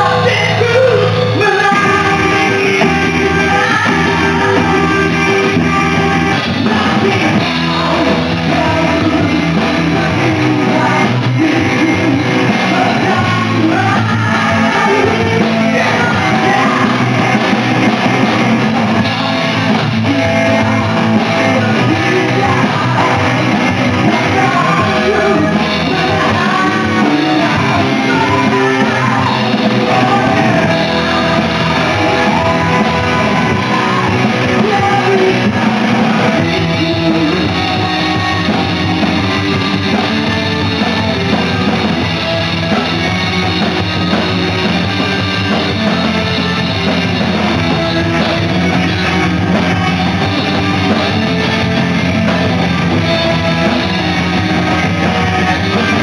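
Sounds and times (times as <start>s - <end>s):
lead vocal singing: 0.0s - 43.4s, 44.2s - 56.0s
rock band playing: 0.0s - 56.0s.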